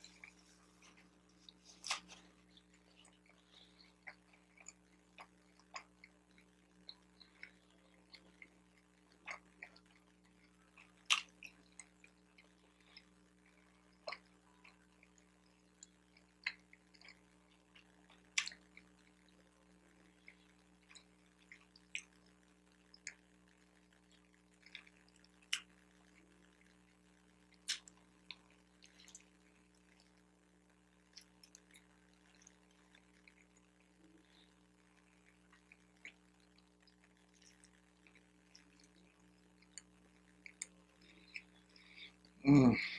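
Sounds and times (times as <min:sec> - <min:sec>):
chewing with mouth clicks: 0:00.0 - 0:19.4, 0:20.1 - 0:30.2, 0:31.1 - 0:42.4
faint steady hum: 0:00.0 - 0:42.9.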